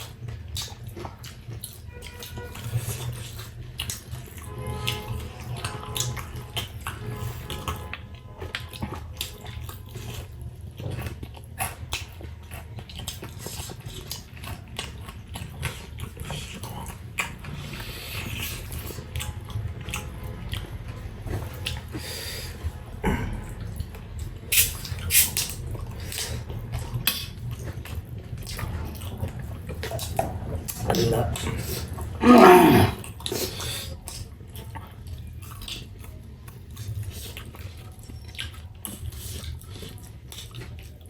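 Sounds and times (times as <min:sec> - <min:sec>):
people chewing: 0:00.0 - 0:41.0.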